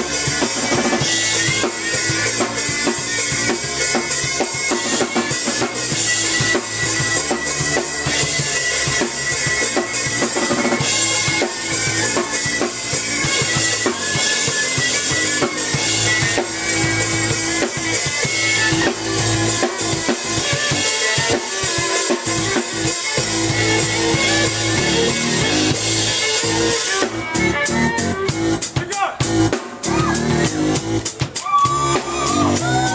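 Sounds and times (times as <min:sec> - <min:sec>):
electric violin melody: 0:00.0 - 0:28.8
drum kit playing a beat: 0:00.0 - 0:32.9
keyboard melody: 0:00.0 - 0:32.9.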